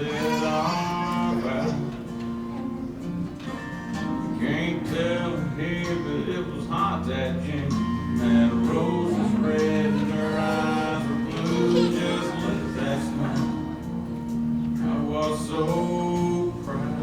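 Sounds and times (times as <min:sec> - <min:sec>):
person singing: 0:00.0 - 0:02.7, 0:03.9 - 0:17.0
acoustic guitar: 0:00.0 - 0:17.0.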